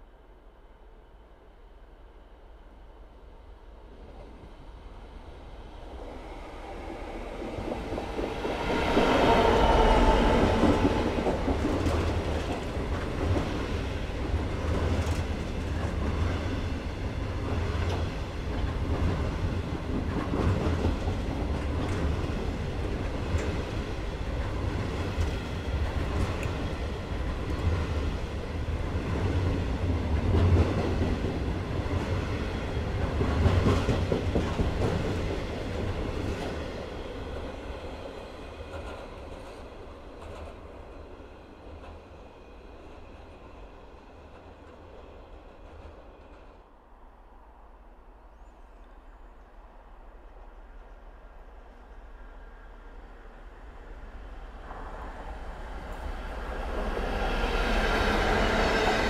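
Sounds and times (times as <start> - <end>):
diesel locomotive passing: 0.9 - 59.0.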